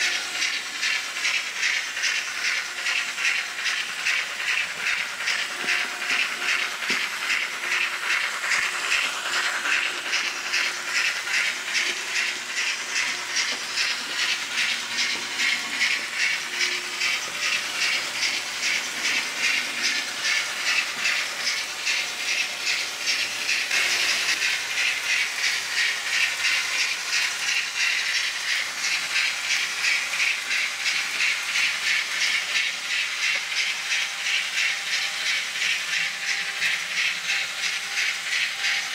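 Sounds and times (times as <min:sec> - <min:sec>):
steam locomotive chuffing: 0:00.0 - 0:38.9.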